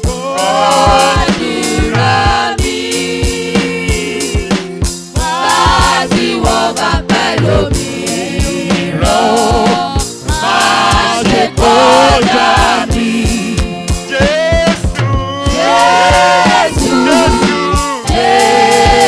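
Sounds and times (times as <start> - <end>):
band with steady drum beat: 0.0 - 19.0
choir singing gospel music: 0.0 - 19.0.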